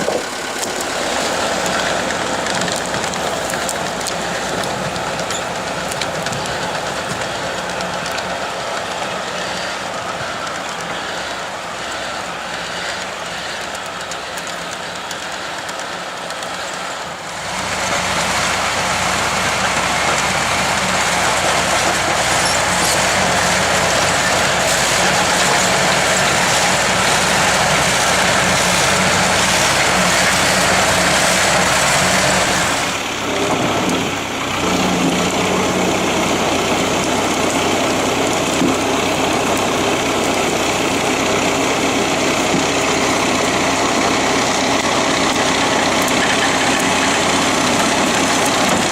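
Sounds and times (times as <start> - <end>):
engine running at high speed: 0.0 - 48.9.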